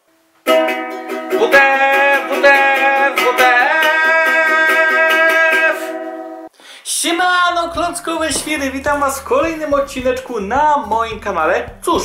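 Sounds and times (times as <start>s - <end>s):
ukulele strumming: 0.4s - 6.5s, 7.6s - 12.0s
man singing: 1.3s - 6.0s, 6.9s - 12.0s.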